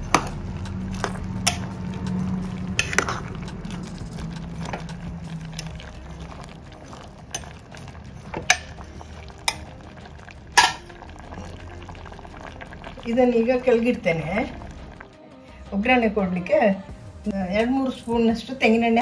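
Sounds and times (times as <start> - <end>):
low simmering: 0.0 - 19.0.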